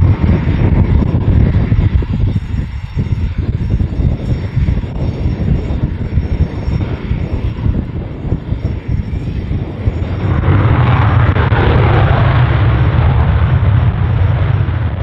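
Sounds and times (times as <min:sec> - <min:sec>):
jet engine low rumble: 0:00.0 - 0:15.0.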